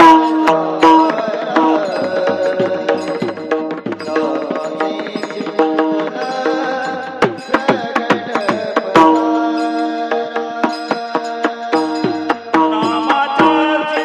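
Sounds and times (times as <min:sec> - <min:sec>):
hand drum rhythm: 0:00.0 - 0:14.0.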